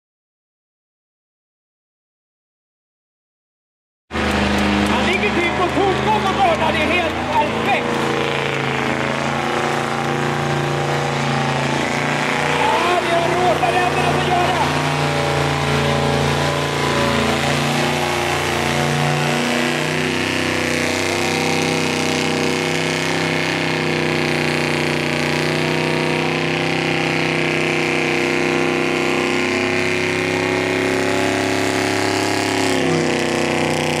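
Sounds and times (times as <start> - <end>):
car engine at high revs: 4.1 - 34.0.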